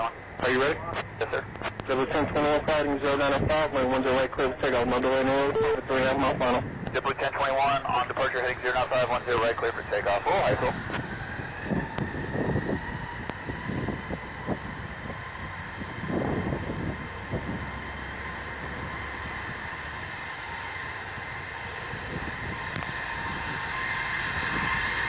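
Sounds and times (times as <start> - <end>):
jet engines whining: 0.0 - 25.0
low rumbles: 0.0 - 25.0.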